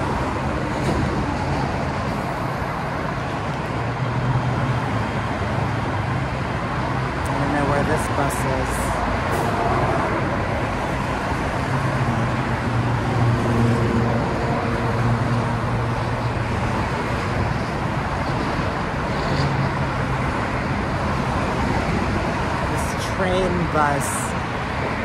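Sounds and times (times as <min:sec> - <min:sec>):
light-rail train humming: 0:00.0 - 0:25.0
road traffic noise: 0:00.0 - 0:25.0.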